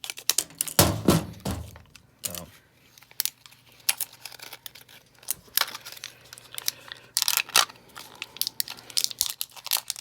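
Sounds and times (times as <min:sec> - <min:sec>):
plastic packaging crinkling and tearing: 0:00.0 - 0:00.8, 0:01.6 - 0:10.0.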